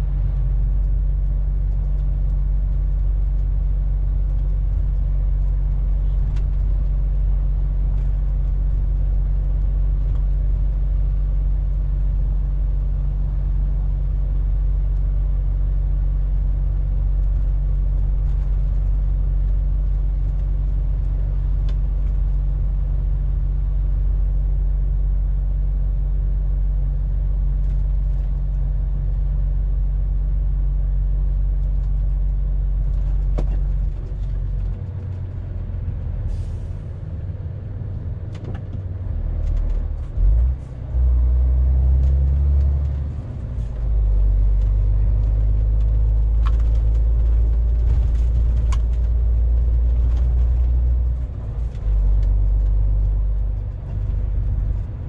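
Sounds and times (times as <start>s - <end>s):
diesel truck engine droning: 0.0s - 55.0s
road rumble: 0.0s - 55.0s.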